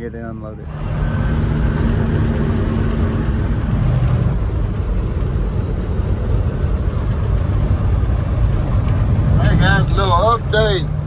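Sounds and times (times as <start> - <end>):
road noise: 0.0 - 11.0
truck engine running: 0.0 - 11.0.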